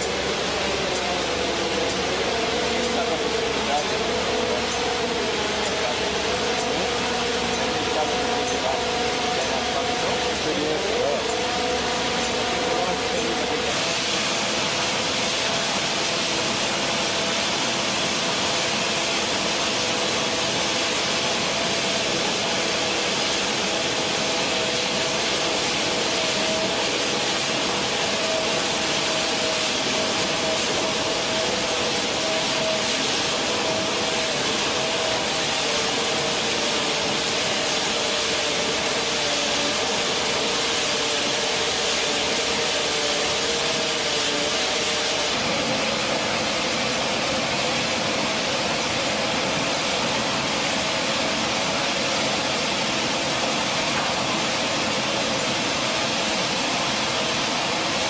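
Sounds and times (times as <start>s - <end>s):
large machine hissing and humming: 0.0s - 58.0s.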